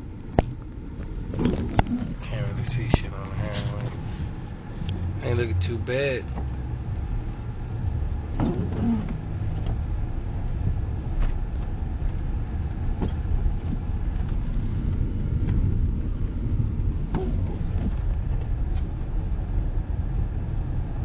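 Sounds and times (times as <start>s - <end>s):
vehicle rumble on highway: 0.0s - 21.0s.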